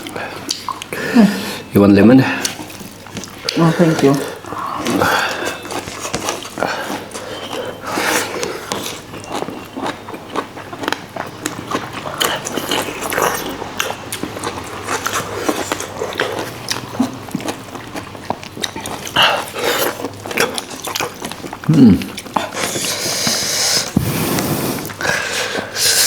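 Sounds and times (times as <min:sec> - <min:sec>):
wet chewing and lip smacks: 0:00.0 - 0:01.0, 0:02.3 - 0:26.0.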